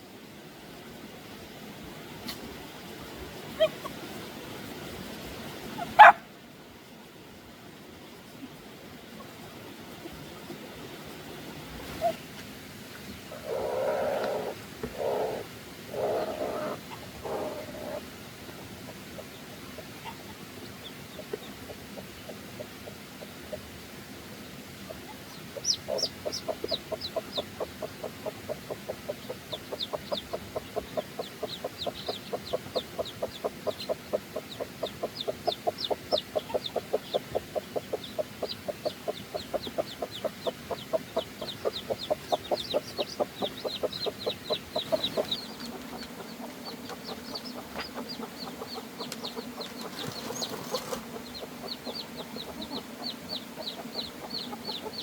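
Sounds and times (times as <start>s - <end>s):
chickens clucking: 2.0s - 6.2s, 8.4s - 23.8s, 24.8s - 55.0s.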